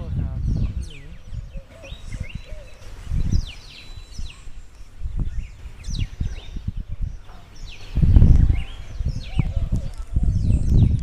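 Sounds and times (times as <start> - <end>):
small birds chirping: 0.0 - 11.0
wind gusts on microphone: 0.0 - 11.0.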